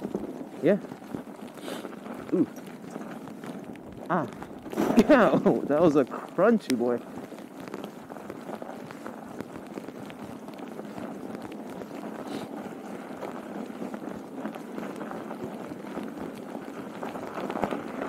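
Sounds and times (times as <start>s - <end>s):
bicycle tyres crunching on snow: 0.0s - 18.0s.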